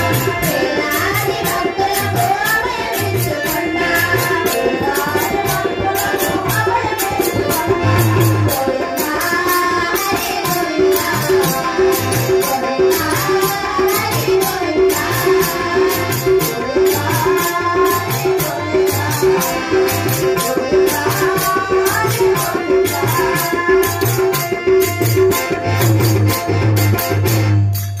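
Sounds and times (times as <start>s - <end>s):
harmonium melody: 0.0s - 28.0s
tabla rhythm: 0.0s - 28.0s.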